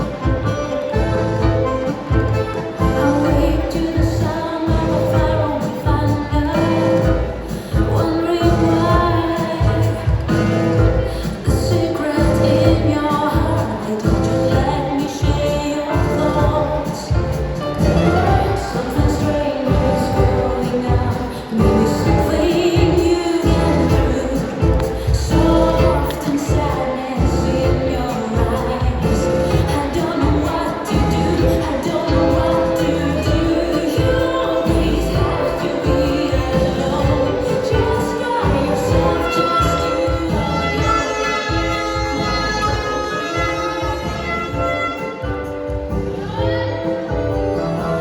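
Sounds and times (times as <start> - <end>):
person singing: 0.0 - 48.0
tango music: 0.0 - 48.0.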